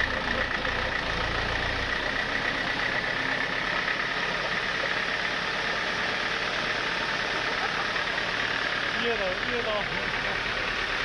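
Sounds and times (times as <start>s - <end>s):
sawmill machinery hum: 0.0s - 11.0s.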